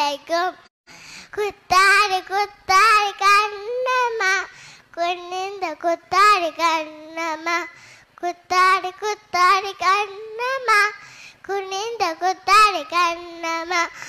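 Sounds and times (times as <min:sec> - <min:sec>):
girl singing: 0:00.0 - 0:14.0.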